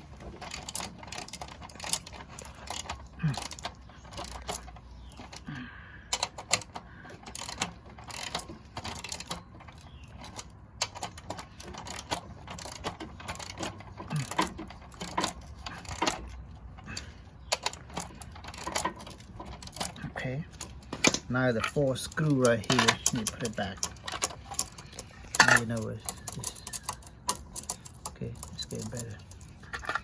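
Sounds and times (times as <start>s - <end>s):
metal parts clicking and rattling: 0.0s - 30.0s.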